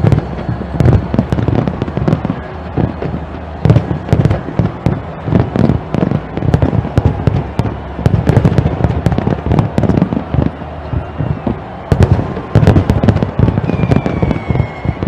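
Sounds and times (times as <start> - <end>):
fireworks booming bursts: 0.0 - 15.0
fireworks cracks and crackling: 0.0 - 15.0.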